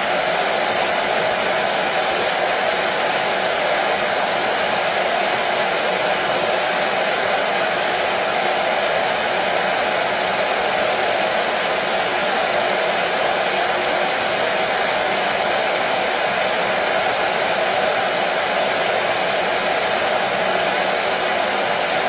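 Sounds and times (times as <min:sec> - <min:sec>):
washing machine running: 0:00.0 - 0:22.0.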